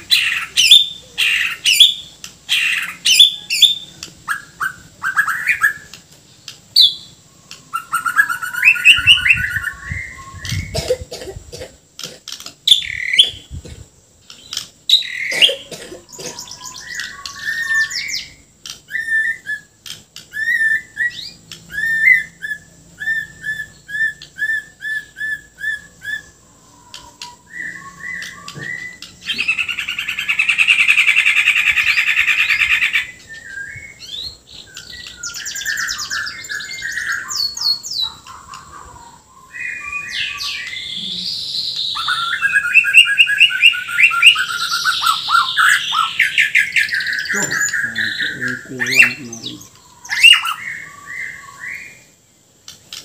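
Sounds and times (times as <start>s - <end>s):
bird song of whistles and chirps: 0.0s - 10.9s, 12.6s - 52.2s.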